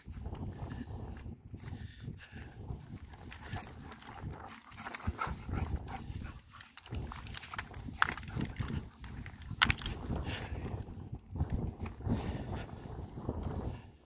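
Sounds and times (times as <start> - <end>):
running footsteps on wet grass: 0.0 - 13.8
wind rumbling on microphone: 0.0 - 14.0.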